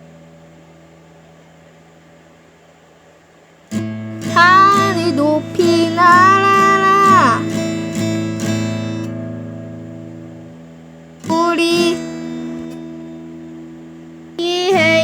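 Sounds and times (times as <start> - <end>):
acoustic guitar strummed slowly: 0.0 - 15.0.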